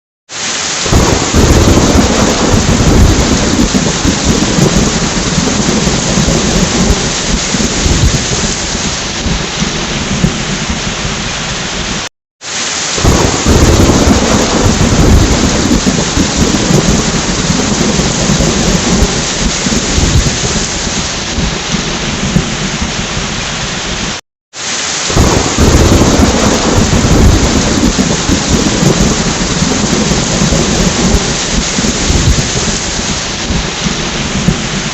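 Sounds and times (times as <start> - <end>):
heavy rain: 0.3 - 34.9
rolling thunder: 0.8 - 12.0, 12.9 - 24.2, 25.0 - 34.9.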